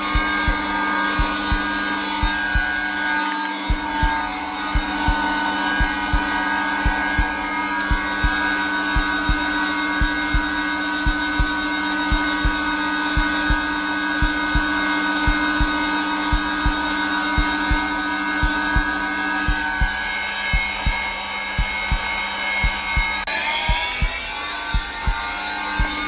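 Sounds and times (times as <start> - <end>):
heartbeat thumps: 0.0 - 26.0
vacuum cleaner humming with whine: 0.0 - 26.0.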